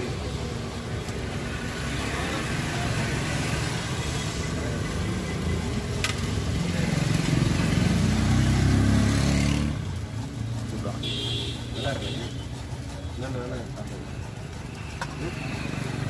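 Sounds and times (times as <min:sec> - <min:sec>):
street noise: 0:00.0 - 0:16.0
vehicle engine running: 0:00.0 - 0:16.0.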